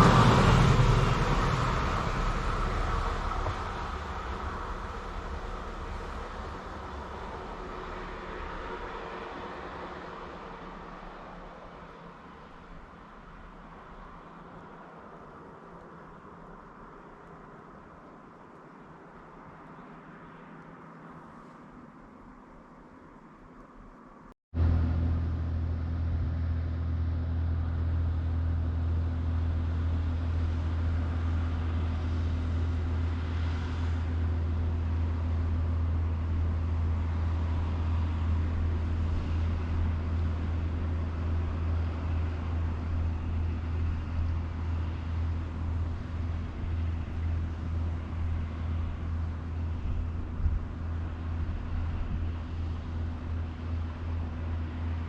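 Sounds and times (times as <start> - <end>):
diesel engine running: 0.0 - 17.5, 24.6 - 55.0.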